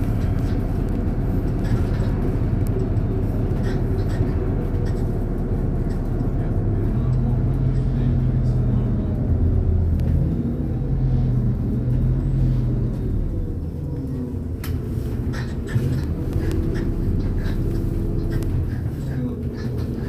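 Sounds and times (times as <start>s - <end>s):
bus engine droning: 0.0s - 20.0s.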